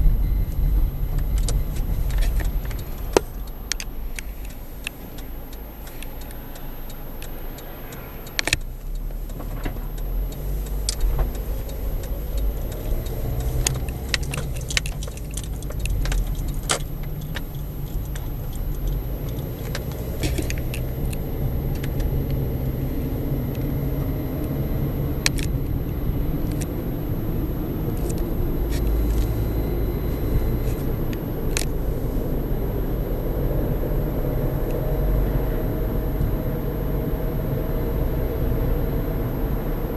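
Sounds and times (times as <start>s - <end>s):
car engine and road rumble: 0.0s - 39.9s
sharp clicks and rattles: 0.1s - 32.1s.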